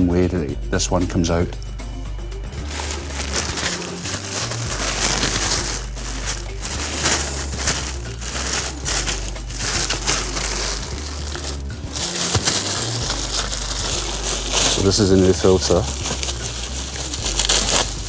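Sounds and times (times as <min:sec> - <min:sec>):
plastic wrapping crinkling: 0:02.5 - 0:18.0.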